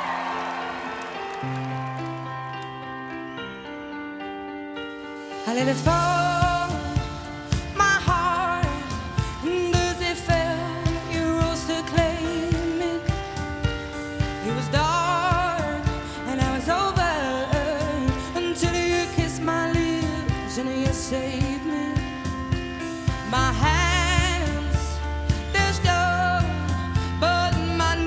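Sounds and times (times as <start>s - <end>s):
band accompaniment: 5.3s - 28.0s
woman singing a pop ballad: 5.4s - 28.0s.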